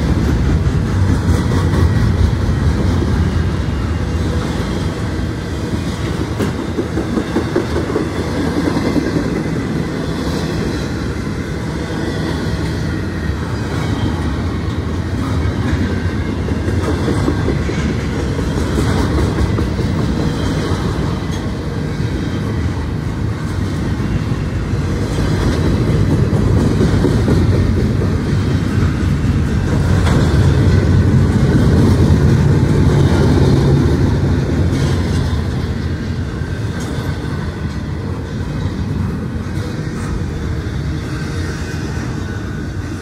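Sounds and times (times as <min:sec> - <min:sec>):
freight train wheels rumbling on rails: 0:00.0 - 0:43.0.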